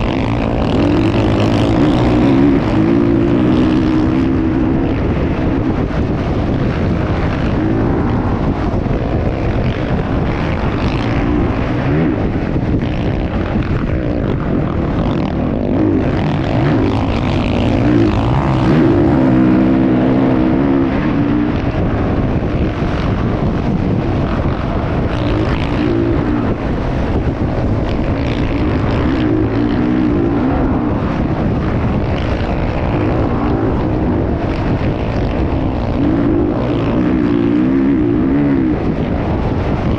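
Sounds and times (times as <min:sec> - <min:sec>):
motocross motorcycle engine revving: 0:00.0 - 0:39.9
steady rushing noise: 0:00.0 - 0:39.9.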